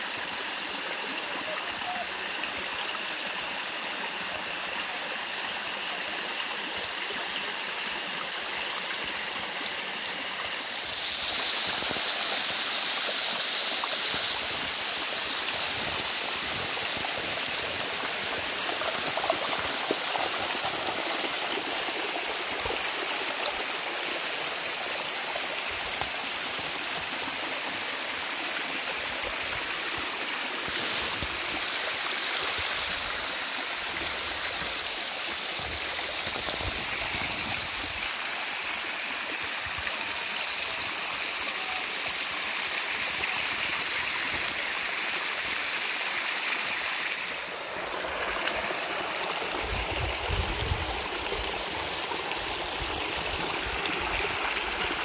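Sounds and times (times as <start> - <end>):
water rushing over rock: 10.3 - 55.0.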